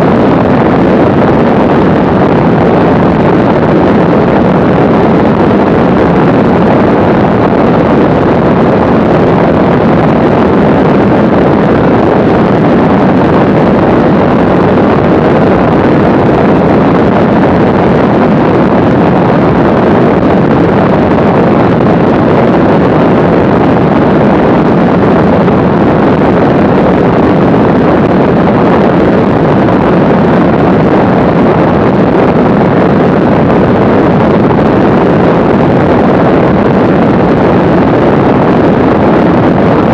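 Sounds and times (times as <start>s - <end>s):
plane engine and propeller drone: 0.0s - 39.9s
wind rushing over microphone: 0.0s - 39.9s.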